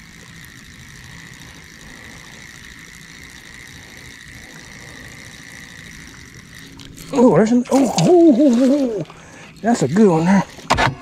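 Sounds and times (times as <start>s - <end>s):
electric motor humming and whining: 0.0s - 11.0s.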